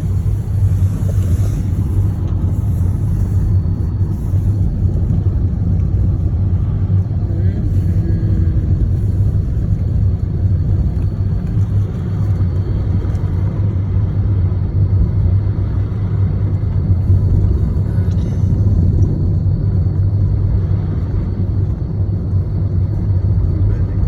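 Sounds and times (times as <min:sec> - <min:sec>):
engine rumbling: 0:00.0 - 0:24.0.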